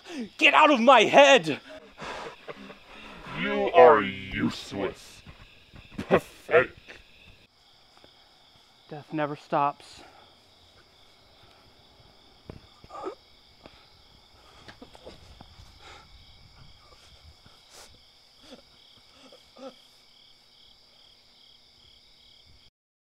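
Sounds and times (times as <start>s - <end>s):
crickets chirring: 0.0s - 22.7s.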